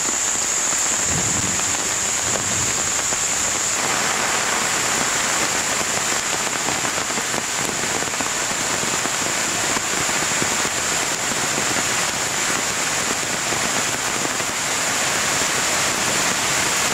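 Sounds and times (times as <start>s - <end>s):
floodwater rushing over rocks: 0.0s - 16.9s
heavy rain: 0.0s - 16.9s.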